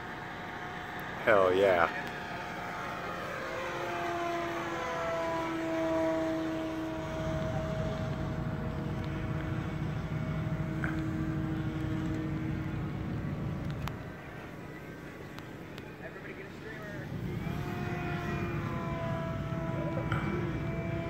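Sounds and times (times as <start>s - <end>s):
model plane motor and propeller: 0.0s - 21.0s.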